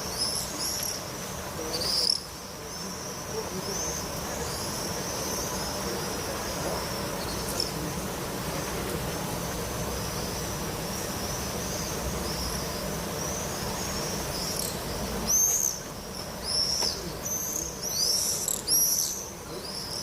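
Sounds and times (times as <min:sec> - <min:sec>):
small birds trilling: 0:00.0 - 0:20.0.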